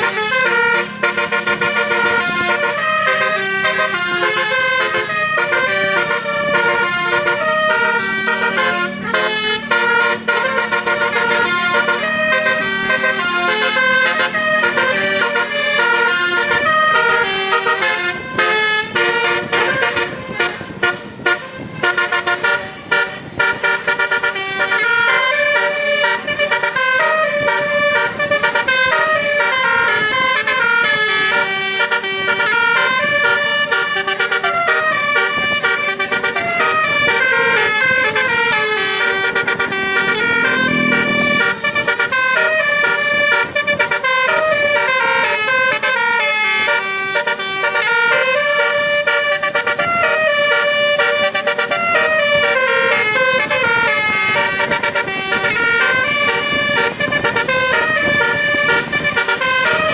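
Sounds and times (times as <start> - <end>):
musical bus horn tune: 0.0 - 59.9.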